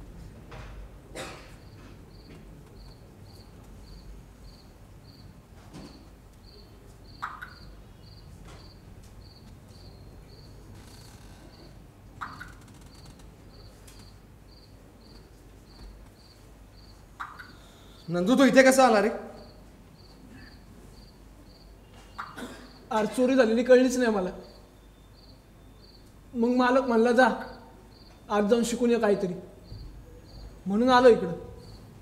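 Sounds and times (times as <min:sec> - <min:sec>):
faint cricket-like chirp: 0:01.2 - 0:32.0.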